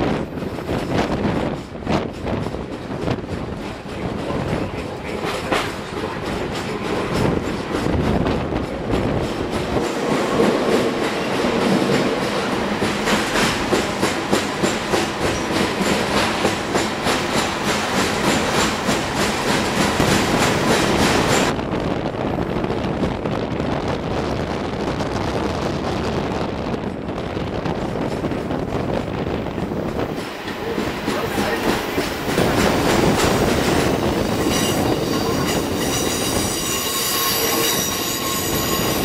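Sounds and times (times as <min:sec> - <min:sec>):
train wheels clicking on rails: 0:00.0 - 0:21.6, 0:26.7 - 0:39.0.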